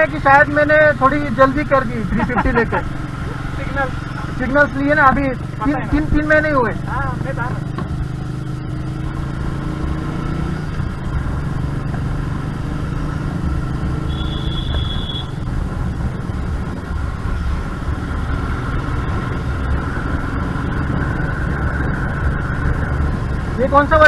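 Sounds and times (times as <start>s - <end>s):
motorcycle engine droning: 0.0s - 24.0s
road noise: 0.0s - 24.0s.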